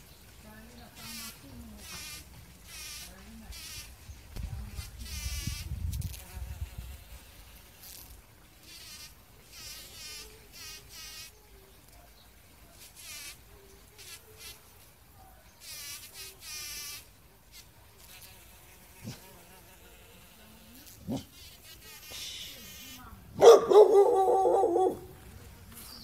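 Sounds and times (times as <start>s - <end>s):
bumblebee buzzing: 0.4s - 11.7s, 12.4s - 14.9s, 15.6s - 26.0s.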